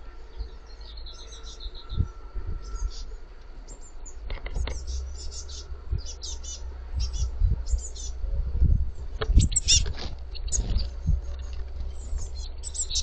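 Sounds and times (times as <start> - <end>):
fledgling birds chirping: 0.0 - 13.0
low rumble: 0.0 - 13.0.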